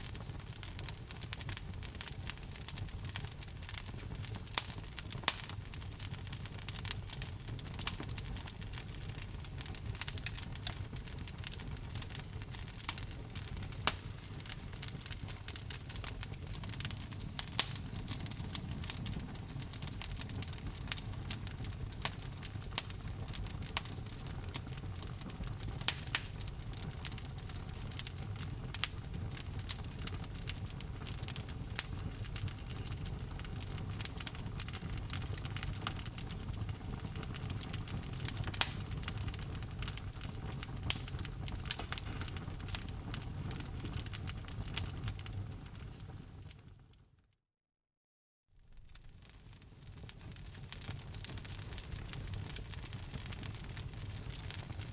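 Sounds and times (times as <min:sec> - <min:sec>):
low rumble of flames: 0:00.0 - 0:46.9, 0:48.6 - 0:54.9
fire crackling and popping: 0:00.0 - 0:47.1, 0:48.6 - 0:54.9.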